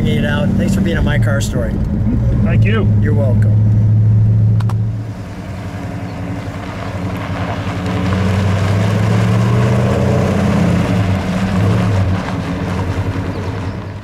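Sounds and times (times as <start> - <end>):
car engine running low: 0.0 - 14.0.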